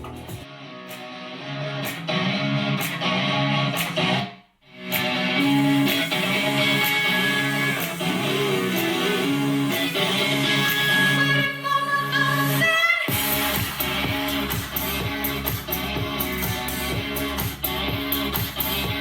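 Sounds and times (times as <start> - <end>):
guitar instrumental music on speaker: 0.0 - 19.0.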